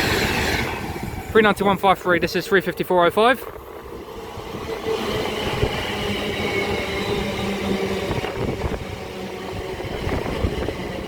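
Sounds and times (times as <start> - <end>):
electric whine of train: 0.0 - 11.0
train wheels on rails: 0.0 - 11.0.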